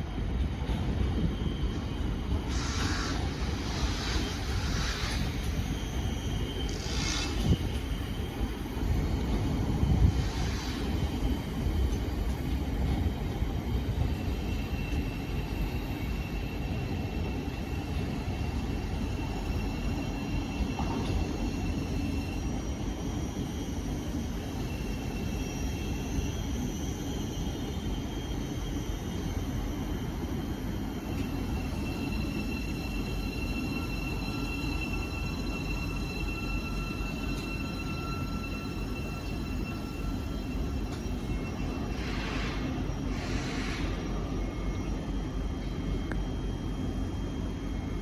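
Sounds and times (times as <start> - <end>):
train rumbling slowly: 0.0 - 48.0
faint high whine: 0.8 - 12.8, 13.5 - 48.0.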